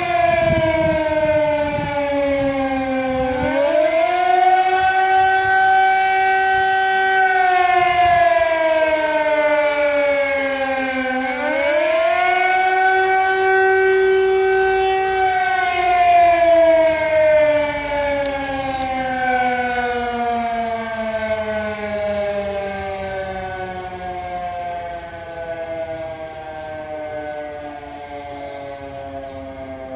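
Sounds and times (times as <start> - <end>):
civil defence siren wailing: 0.0 - 29.9.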